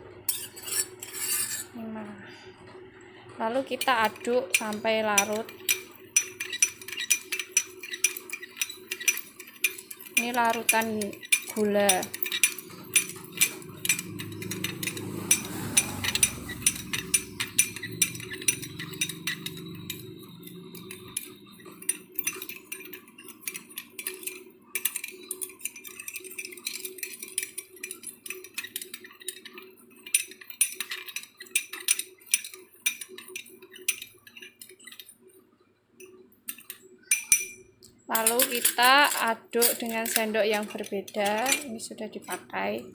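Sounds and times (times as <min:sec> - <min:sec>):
spoon clinking against glass bowl: 0:04.1 - 0:35.1, 0:36.0 - 0:42.4.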